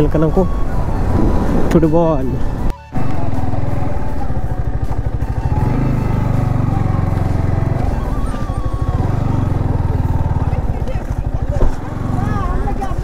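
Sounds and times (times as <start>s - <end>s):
motorcycle engine idling: 2.5s - 13.0s.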